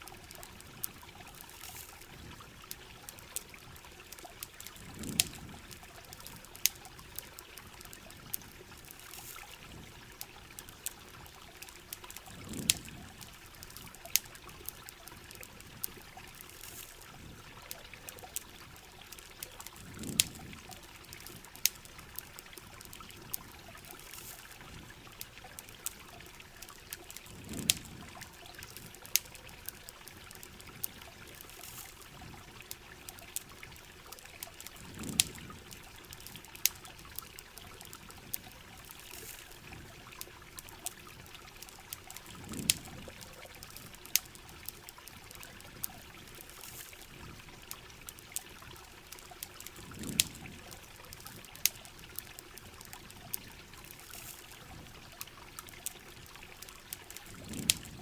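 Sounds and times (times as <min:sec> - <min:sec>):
campfire crackling and popping: 0:00.0 - 0:58.0
running water: 0:00.0 - 0:58.0
steady rain: 0:00.0 - 0:58.0.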